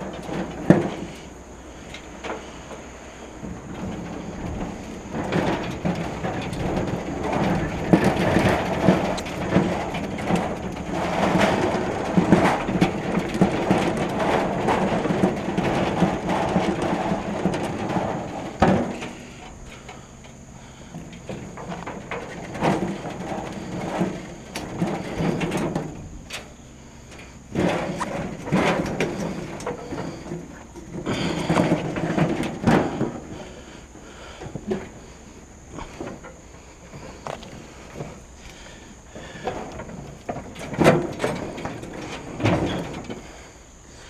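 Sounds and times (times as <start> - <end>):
metal grill rattling on concrete: 3.5 - 20.4, 21.0 - 33.6, 35.7 - 43.5.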